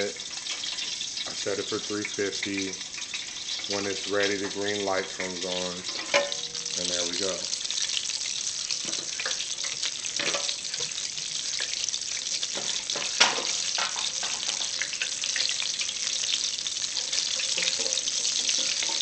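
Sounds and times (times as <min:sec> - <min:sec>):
oil sizzling in deep fryer: 0:00.0 - 0:19.0.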